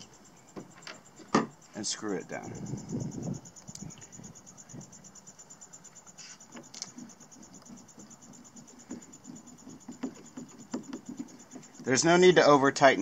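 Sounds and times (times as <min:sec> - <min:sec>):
insects pulsing chirp: 0:00.0 - 0:13.0.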